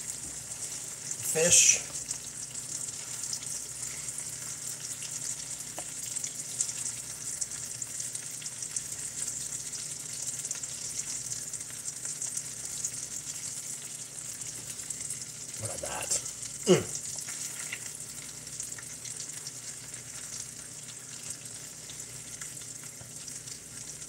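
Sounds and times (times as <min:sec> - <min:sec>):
fish sizzling in a skillet: 0:00.0 - 0:24.0.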